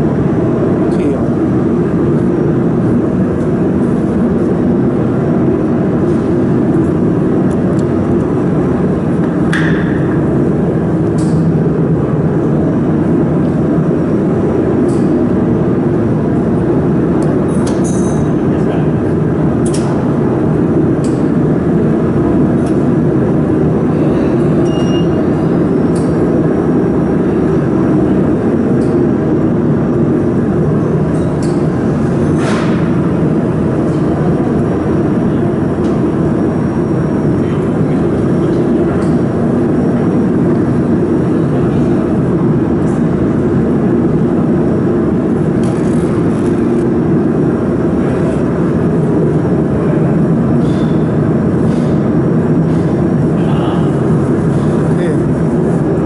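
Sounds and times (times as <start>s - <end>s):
workshop machinery humming: 0.0s - 56.0s.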